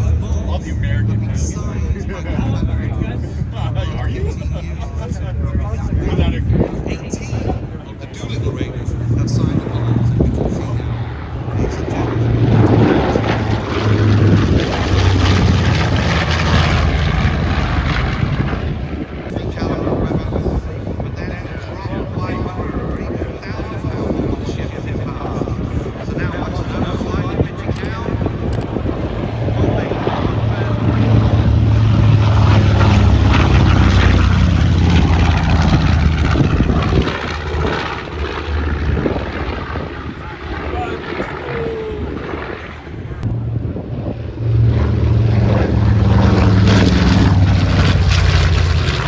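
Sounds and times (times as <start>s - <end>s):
propeller airplane engine drone: 0.0s - 49.0s.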